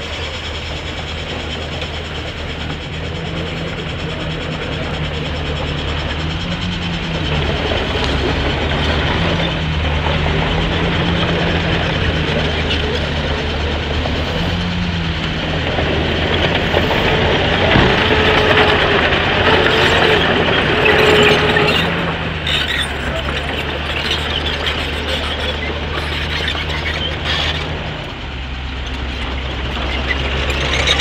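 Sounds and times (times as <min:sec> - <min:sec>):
metallic clanking and rattling: 0:00.0 - 0:27.8
diesel engine running: 0:00.0 - 0:31.0
high whine: 0:00.0 - 0:31.0.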